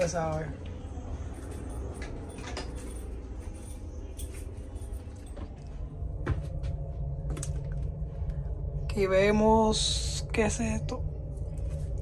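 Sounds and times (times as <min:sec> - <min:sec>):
ferry engine drone: 0:00.0 - 0:12.0.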